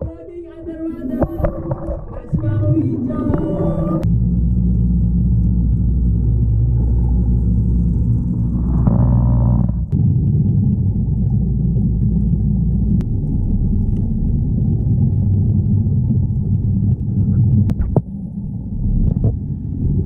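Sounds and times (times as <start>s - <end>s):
muffled low rumble: 0.0s - 20.0s.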